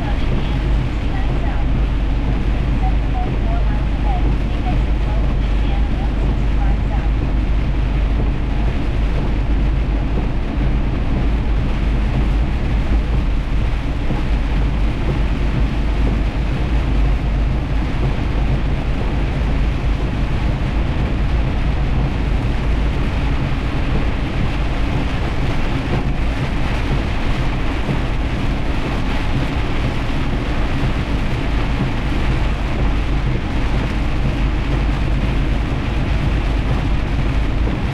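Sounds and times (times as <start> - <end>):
heavy rain: 0.0 - 37.9
truck engine rumbling: 0.0 - 37.9.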